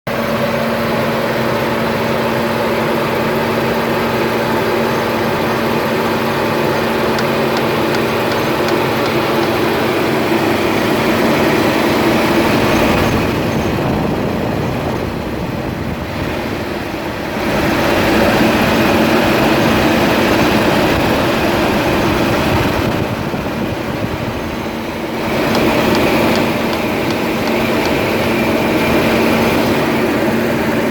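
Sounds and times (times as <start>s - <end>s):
car engine running: 0.1s - 30.9s
engine knock: 0.1s - 30.9s.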